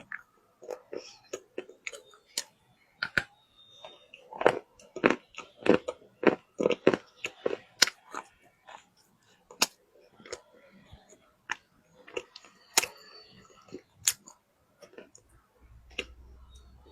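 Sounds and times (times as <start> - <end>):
crunchy chewing of wet clay: 0.0 - 16.9.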